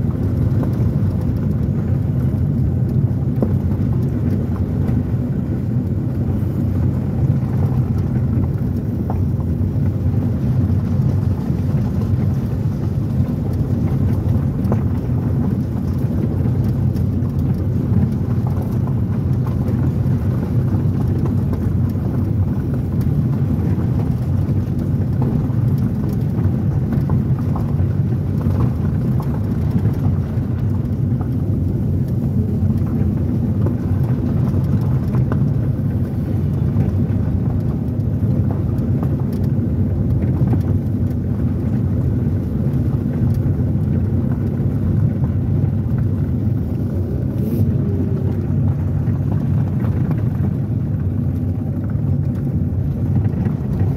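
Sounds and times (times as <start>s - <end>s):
gravel clicking under tyres: 0.0s - 53.9s
tyres and engine rumbling: 0.0s - 53.9s.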